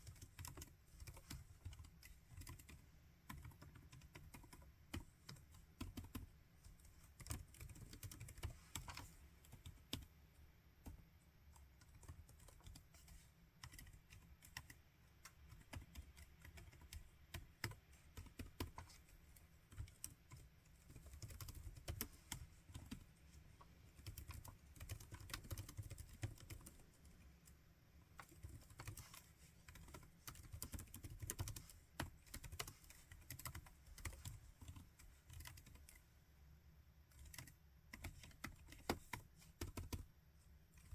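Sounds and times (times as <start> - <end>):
laptop keyboard typing: 0.0 - 10.2, 10.8 - 36.1, 37.0 - 40.1, 40.7 - 40.9.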